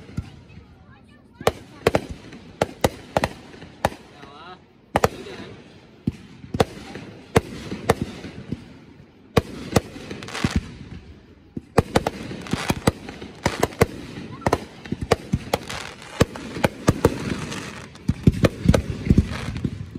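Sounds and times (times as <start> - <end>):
fireworks bangs and crackling pops: 0.0 - 19.9.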